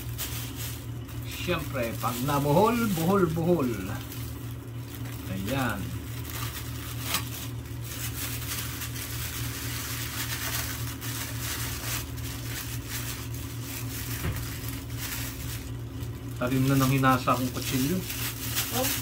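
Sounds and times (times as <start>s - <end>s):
plastic bag crinkling: 0.0s - 19.0s
steady low hum: 0.0s - 19.0s.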